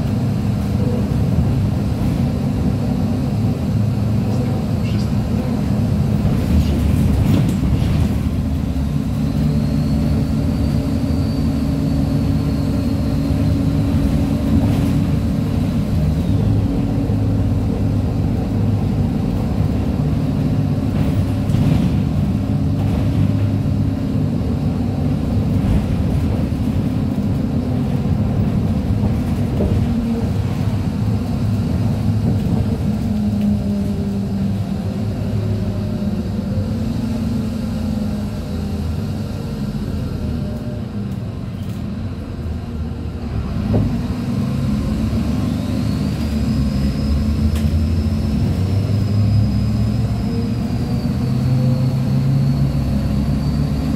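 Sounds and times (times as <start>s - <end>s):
bus diesel engine running: 0.0s - 53.9s
road noise: 0.0s - 53.9s.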